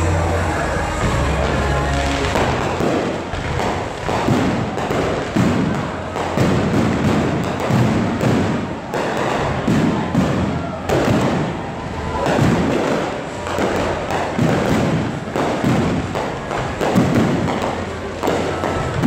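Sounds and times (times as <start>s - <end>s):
fireworks booming: 0.0s - 19.0s.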